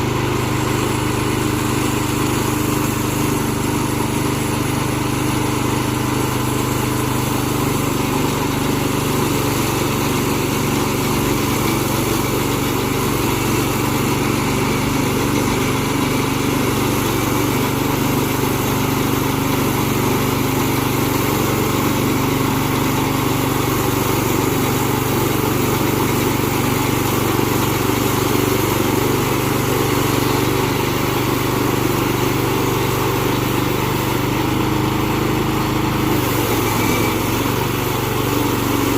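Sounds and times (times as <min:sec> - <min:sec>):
small gasoline engine droning: 0:00.0 - 0:38.9.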